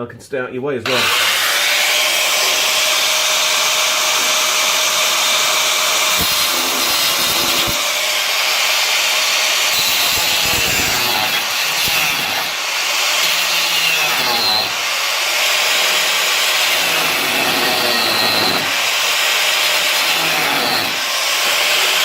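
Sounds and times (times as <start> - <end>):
angle grinder cutting steel: 0.8 - 22.0.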